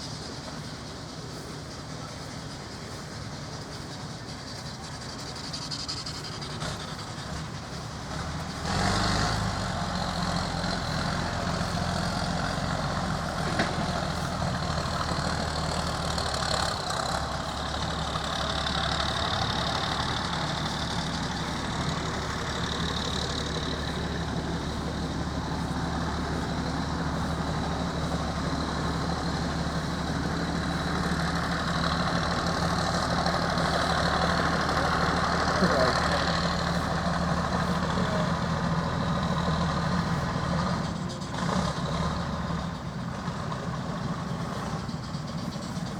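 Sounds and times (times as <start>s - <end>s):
tractor engine idling: 0.0s - 45.9s.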